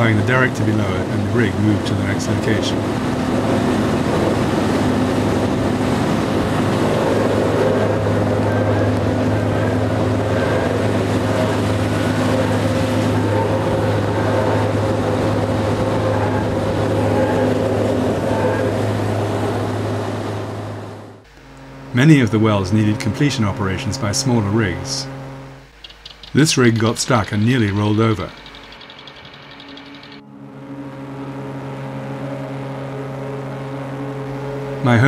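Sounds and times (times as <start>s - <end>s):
drilling rig machinery drone: 0.0s - 35.0s.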